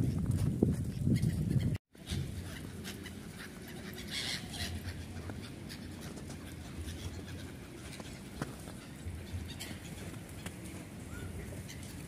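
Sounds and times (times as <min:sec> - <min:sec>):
birds calling: 0:01.1 - 0:12.0.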